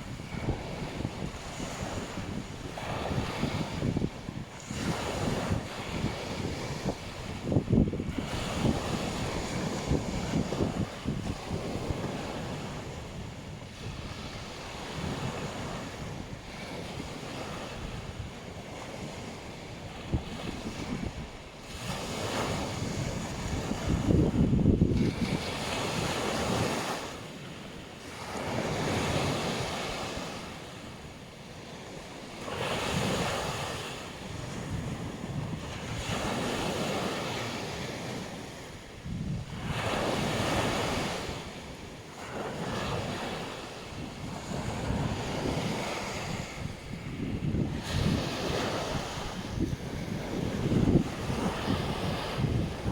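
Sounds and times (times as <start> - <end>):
wind buffeting microphone: 0.0 - 27.1, 31.8 - 52.9
waves breaking on a beach: 0.0 - 52.9.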